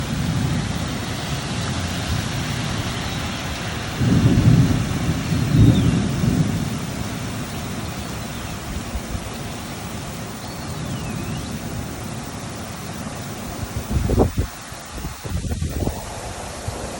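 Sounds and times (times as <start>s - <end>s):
steady rain falling: 0.0s - 16.9s
thunder rumbling: 0.0s - 16.9s.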